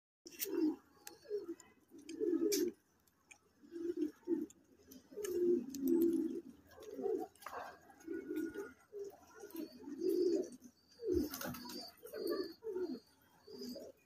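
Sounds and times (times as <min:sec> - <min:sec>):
pigeons cooing: 0:00.3 - 0:14.0.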